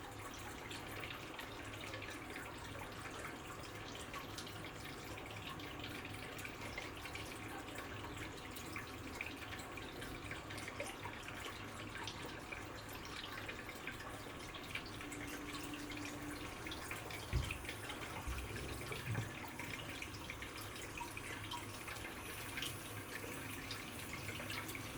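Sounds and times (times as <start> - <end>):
water trickling and dripping: 0.0 - 24.9.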